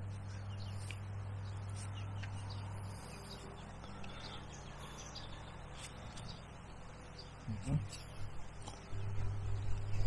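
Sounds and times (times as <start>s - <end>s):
faint bird chirps: 0.0s - 8.9s
steady low hum: 0.0s - 10.0s.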